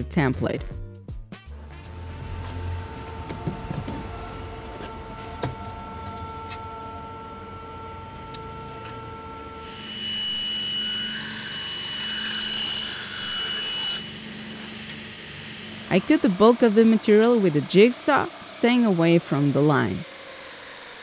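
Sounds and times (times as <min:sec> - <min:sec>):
high-pitched machine whine: 0:01.7 - 0:21.0
laser cutter fans: 0:02.5 - 0:21.0.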